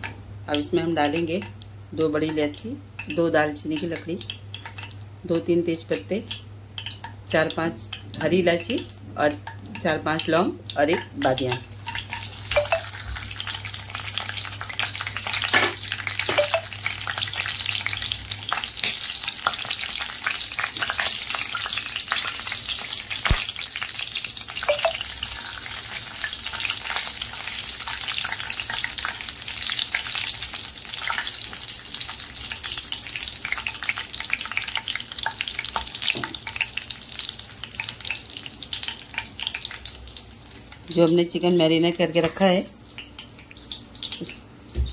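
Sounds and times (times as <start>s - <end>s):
spices sizzling in hot oil: 0.0s - 44.8s.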